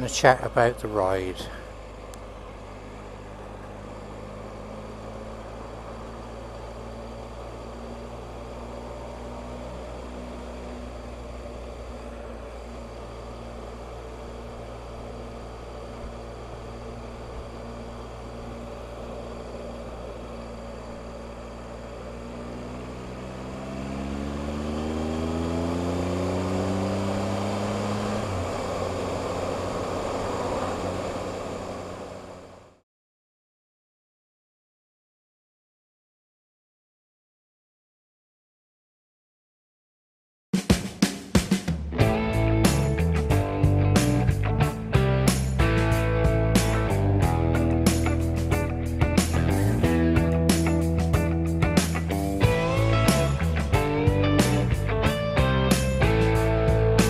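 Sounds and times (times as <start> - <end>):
motorcycle engine: 0.0 - 32.8, 41.6 - 57.0
road and wind noise: 0.0 - 32.8, 42.0 - 57.0.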